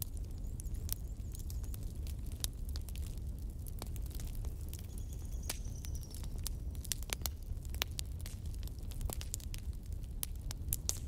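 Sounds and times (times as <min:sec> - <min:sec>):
fire crackling and popping: 0:00.0 - 0:11.0
low rumble of flame: 0:00.0 - 0:11.0.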